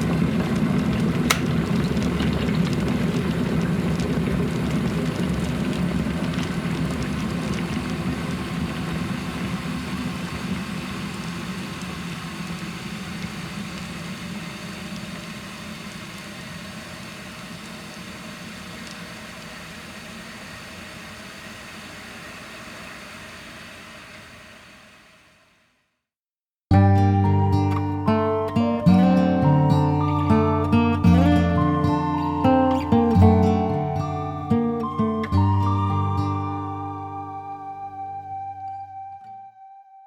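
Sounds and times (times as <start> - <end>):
kettle boiling: 0.0 - 25.6, 26.8 - 39.1.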